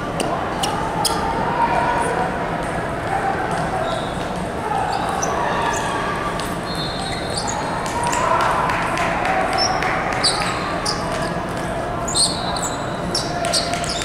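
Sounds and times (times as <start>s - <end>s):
echoing hall din: 0.0s - 14.0s.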